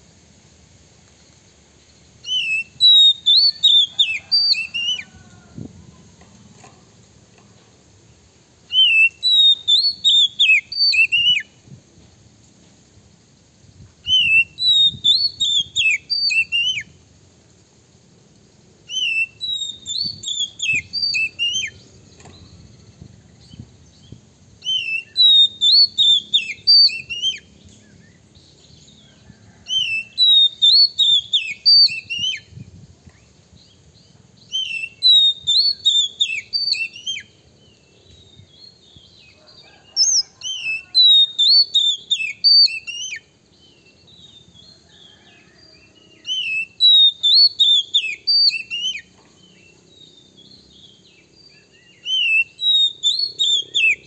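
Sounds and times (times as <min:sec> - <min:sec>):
bird singing whistled notes: 0:01.8 - 0:05.7, 0:08.6 - 0:11.6, 0:13.7 - 0:17.0, 0:18.8 - 0:54.0.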